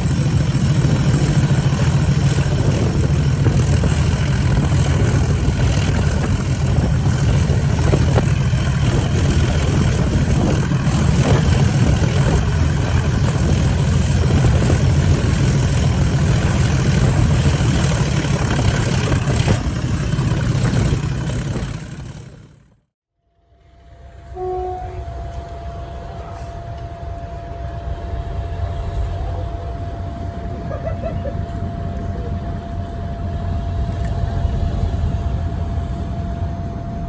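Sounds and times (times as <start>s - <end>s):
diesel locomotive engine droning: 0.0s - 37.0s.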